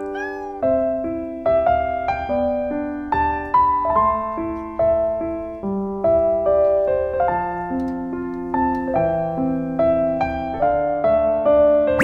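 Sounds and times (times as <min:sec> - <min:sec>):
gentle solo piano melody: 0:00.0 - 0:12.0.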